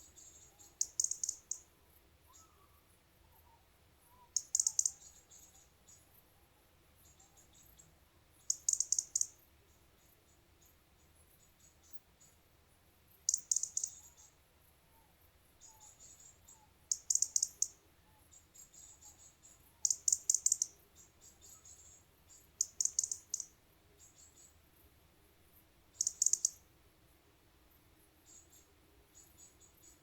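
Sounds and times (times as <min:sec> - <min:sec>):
faint chirps of another insect: 0:00.0 - 0:26.8, 0:27.6 - 0:30.0
insect chirping: 0:00.0 - 0:30.0.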